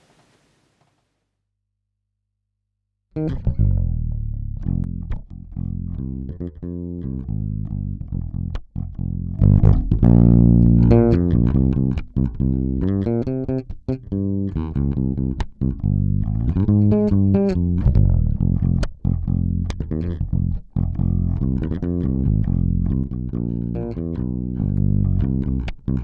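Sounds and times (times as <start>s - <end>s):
plucked bass guitar: 3.2s - 26.0s.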